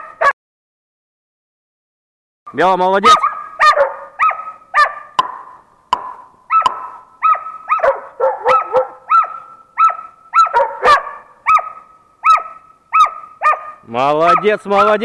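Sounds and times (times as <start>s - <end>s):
dogs barking: 0.0s - 0.3s, 3.0s - 15.0s.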